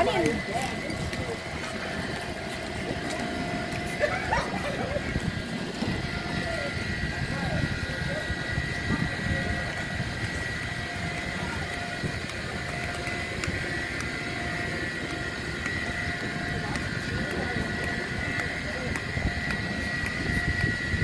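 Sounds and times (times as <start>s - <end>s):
constant whine: 0.0s - 21.0s
footsteps on concrete: 0.0s - 21.0s
rolling luggage on concrete: 0.0s - 21.0s
standing train humming: 0.0s - 21.0s.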